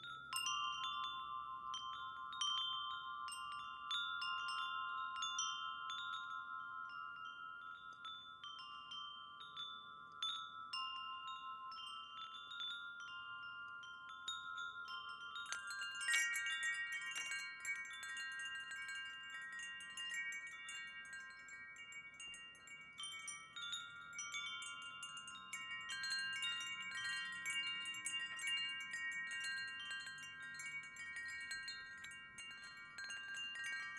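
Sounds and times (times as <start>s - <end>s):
wind chimes ringing: 0.0s - 33.9s.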